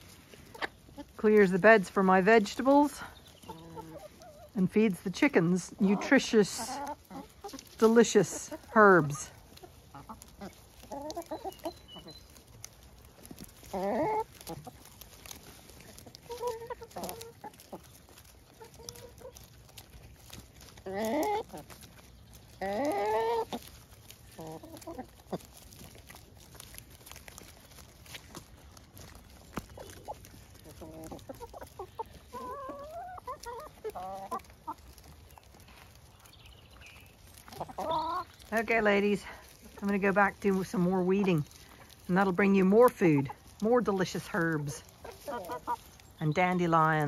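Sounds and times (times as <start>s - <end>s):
hens clucking: 0.0s - 47.0s.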